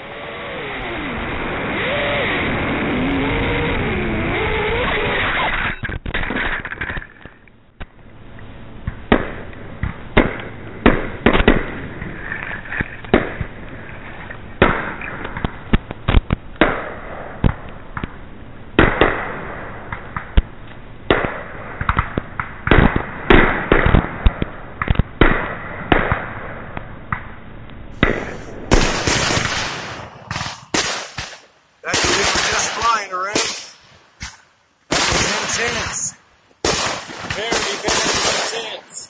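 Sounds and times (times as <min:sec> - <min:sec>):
fireworks bursting with sharp bangs: 0:00.0 - 0:08.0, 0:08.8 - 0:39.0.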